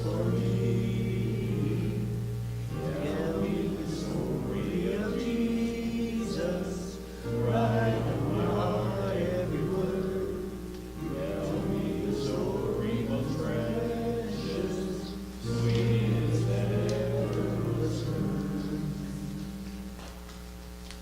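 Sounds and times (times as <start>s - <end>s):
congregation singing a hymn: 0.0s - 20.2s.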